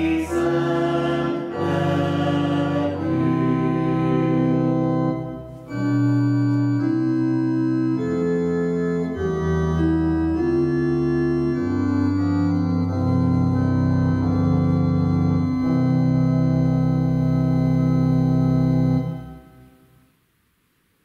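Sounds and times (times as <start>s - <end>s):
organ playing hymn chords: 0.0s - 19.9s.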